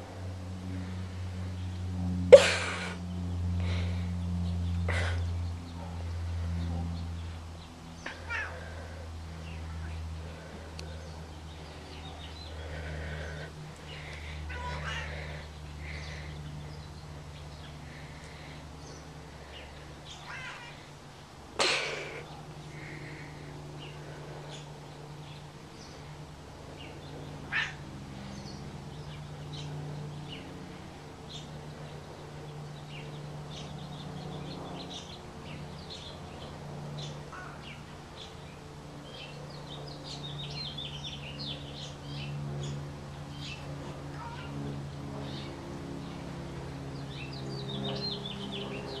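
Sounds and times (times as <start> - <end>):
low machine hum: 0.0 - 49.0
small birds chirping: 0.0 - 49.0.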